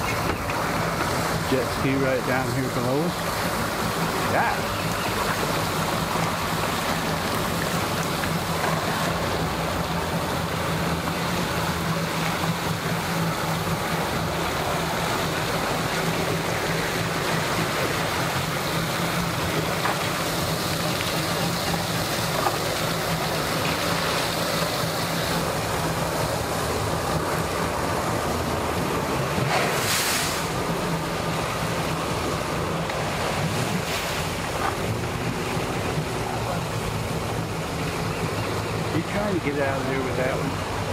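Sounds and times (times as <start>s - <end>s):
boat engines idling: 0.0s - 40.9s
churning water: 0.0s - 40.9s
loud rush of noise: 0.0s - 40.9s.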